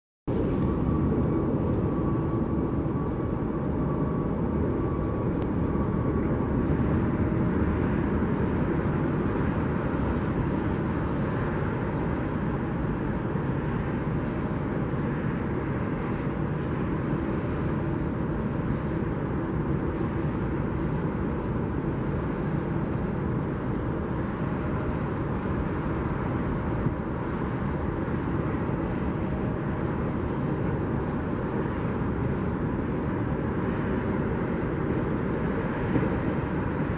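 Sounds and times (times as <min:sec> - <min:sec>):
distant jet engines rumbling: 0:00.3 - 0:36.9
faint high whine: 0:00.3 - 0:36.9.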